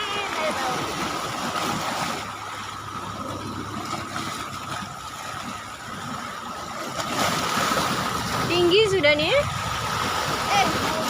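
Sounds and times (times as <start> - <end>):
waves splashing against shore: 0.0 - 11.0.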